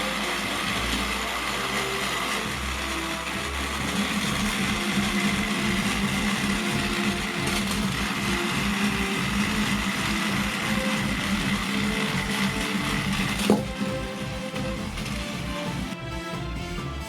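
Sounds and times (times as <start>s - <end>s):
toy train motors whirring: 0.0s - 16.0s.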